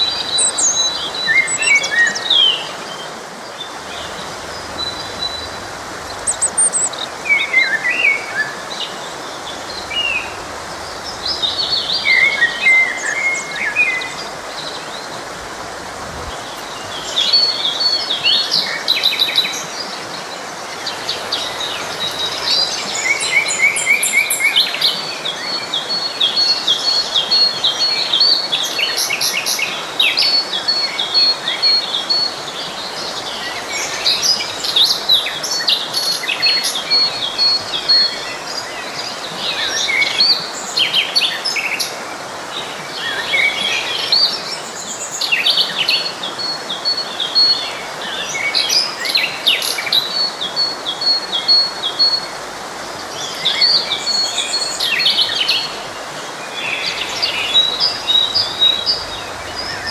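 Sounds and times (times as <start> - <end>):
forest stream rushing: 0.0 - 59.9
songbirds singing: 0.0 - 59.9.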